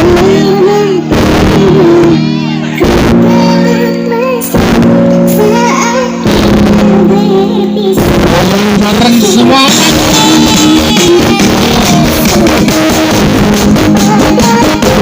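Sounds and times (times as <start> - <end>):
person singing: 0.0 - 15.0
sustained keyboard chords: 0.0 - 15.0.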